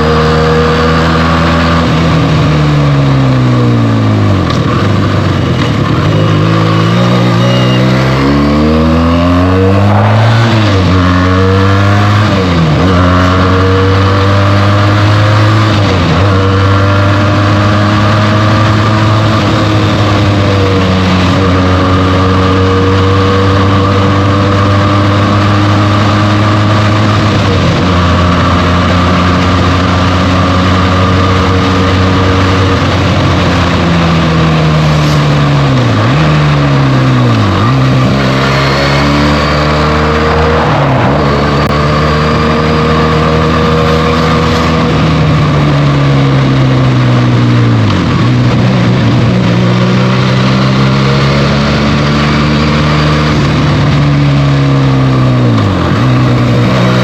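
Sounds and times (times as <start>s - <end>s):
motorcycle engine shifting gears: 0.0s - 57.0s
wind and road noise: 0.0s - 57.0s.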